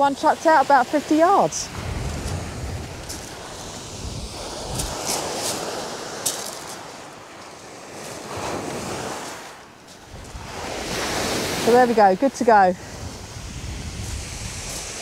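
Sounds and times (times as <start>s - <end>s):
wind buffeting microphone: 0.0s - 7.4s, 8.0s - 15.0s
waves on shingle beach: 0.0s - 15.0s.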